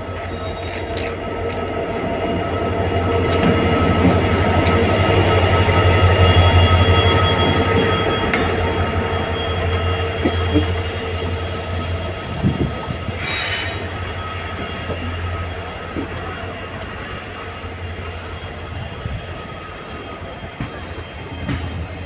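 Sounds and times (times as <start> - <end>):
high wheel squeal: 0.0 - 22.0
train rumbling on track: 0.0 - 22.0.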